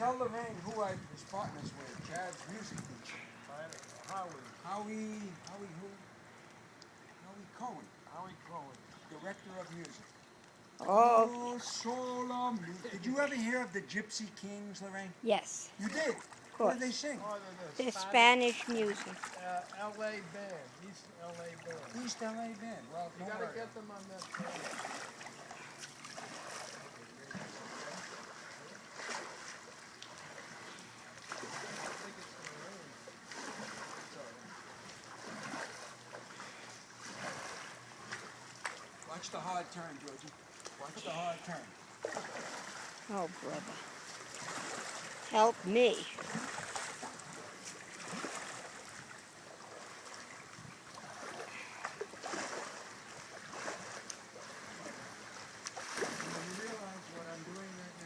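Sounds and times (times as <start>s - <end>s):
water splashing against boat: 0.0s - 5.8s, 15.8s - 58.0s.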